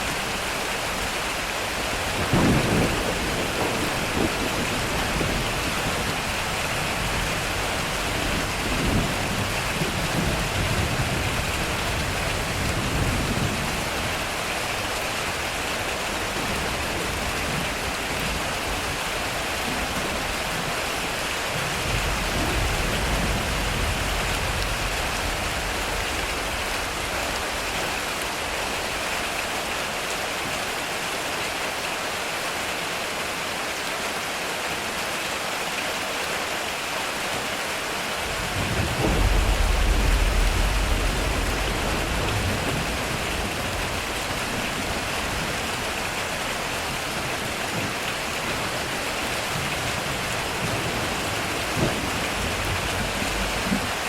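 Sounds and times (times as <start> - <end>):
heavy rain on a metal roof: 0.0 - 54.0
low thunder rumbling: 0.2 - 29.8, 38.2 - 54.0.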